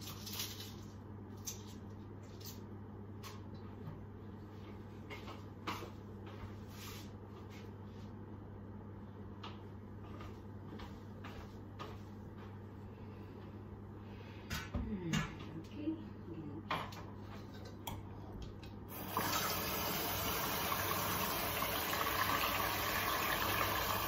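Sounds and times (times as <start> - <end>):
low kitchen hum: 0.0 - 24.0.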